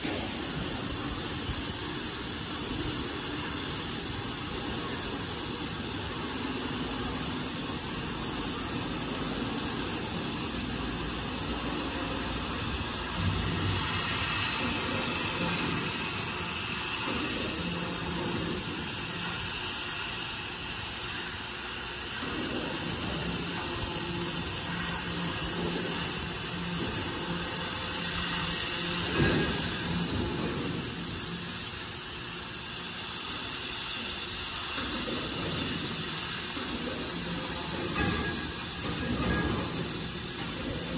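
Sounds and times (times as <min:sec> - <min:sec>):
cutting torch hissing: 0:00.0 - 0:40.9.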